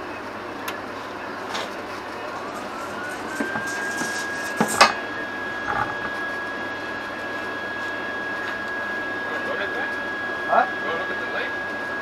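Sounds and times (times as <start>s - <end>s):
steady high whine: 1.2s - 12.0s.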